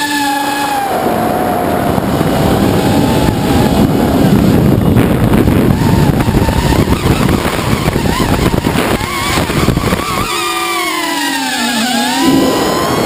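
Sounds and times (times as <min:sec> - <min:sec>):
quadcopter motors whining: 0:00.0 - 0:13.0
wind noise on microphone: 0:00.0 - 0:13.0.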